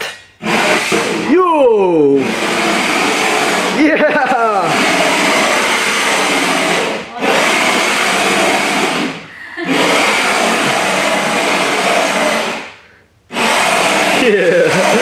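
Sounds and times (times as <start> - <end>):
toy electric motor whirring: 0.4 - 1.4, 2.1 - 15.0.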